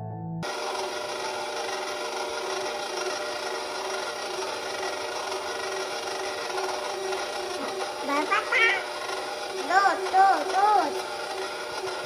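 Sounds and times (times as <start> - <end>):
stand mixer humming and whining: 0.4 - 12.0.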